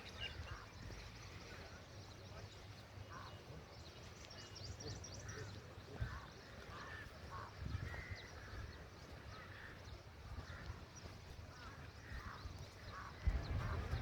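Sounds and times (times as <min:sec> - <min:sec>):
birds calling: 0:00.0 - 0:02.4, 0:04.4 - 0:14.0.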